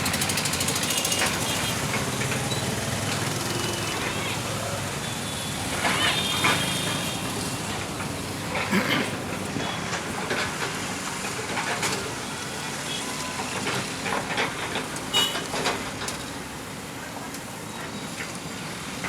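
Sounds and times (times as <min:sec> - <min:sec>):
rumble of machinery and vehicles: 0:00.0 - 0:19.0.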